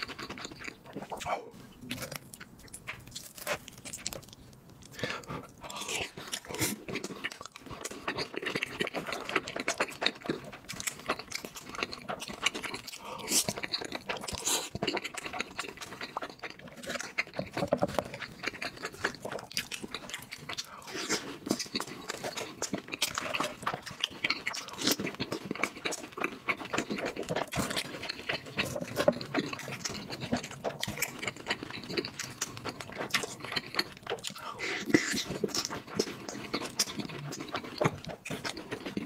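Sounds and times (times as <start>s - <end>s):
person chewing and crunching food: 0.0s - 39.0s.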